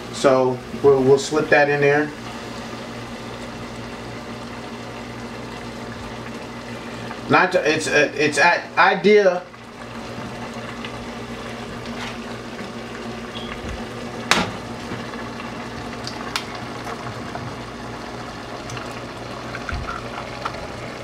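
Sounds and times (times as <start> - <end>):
food sizzling in a pot: 0.7 - 21.0.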